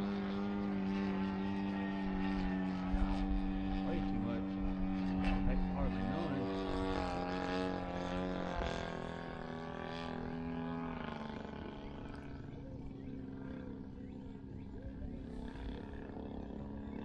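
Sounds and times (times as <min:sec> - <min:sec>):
model plane engine droning: 0:00.0 - 0:17.0.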